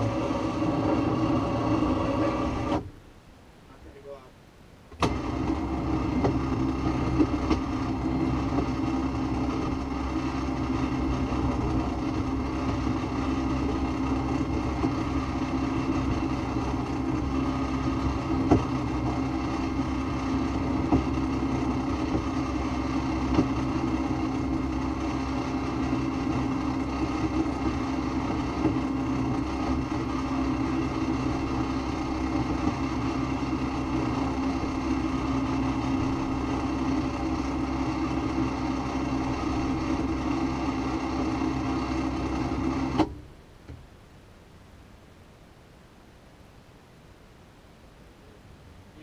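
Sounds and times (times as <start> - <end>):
engine idling: 0.0 - 2.8, 4.9 - 44.1.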